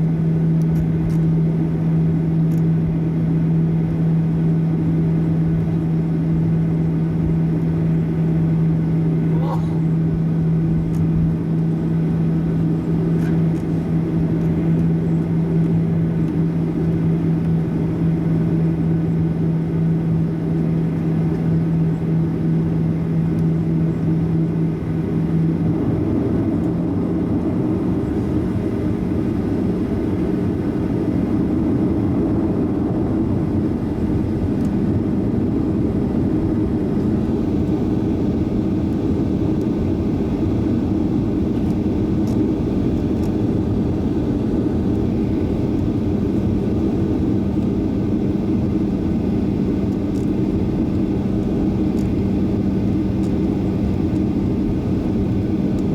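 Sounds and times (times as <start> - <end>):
jet engine and airflow rumble: 0.0 - 55.9.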